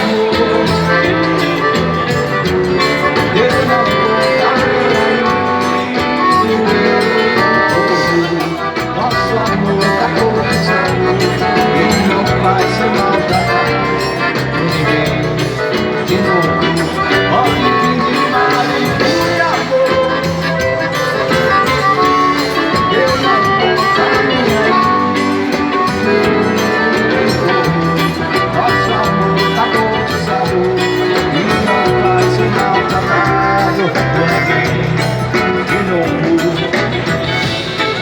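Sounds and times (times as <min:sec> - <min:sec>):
live band playing instrumental: 0:00.0 - 0:38.0.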